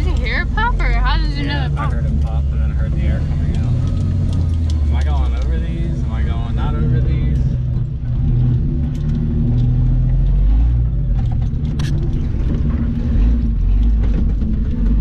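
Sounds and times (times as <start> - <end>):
car engine running at low revs: 0.0 - 15.0
vehicle clicks and rattles: 1.6 - 15.0.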